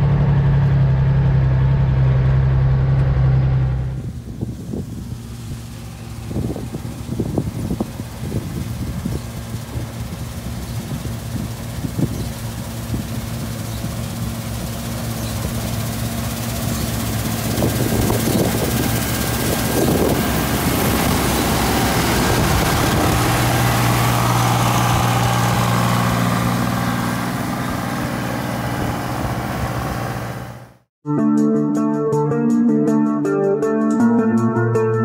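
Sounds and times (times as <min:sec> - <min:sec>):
combine harvester running: 0:00.0 - 0:30.8.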